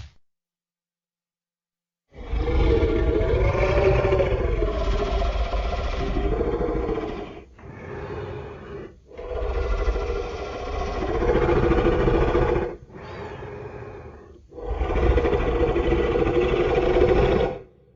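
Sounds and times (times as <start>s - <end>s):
monster roars: 2.1s - 17.7s.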